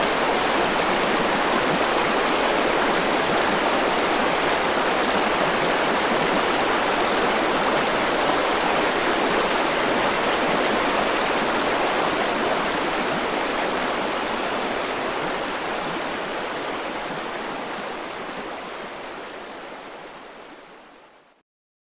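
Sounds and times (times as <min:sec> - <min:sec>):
river water rushing over rocks: 0:00.0 - 0:21.0.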